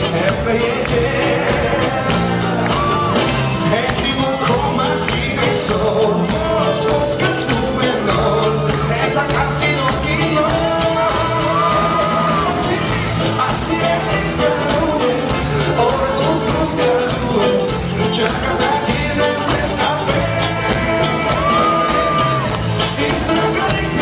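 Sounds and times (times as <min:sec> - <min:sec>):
live band with singing: 0:00.0 - 0:24.0.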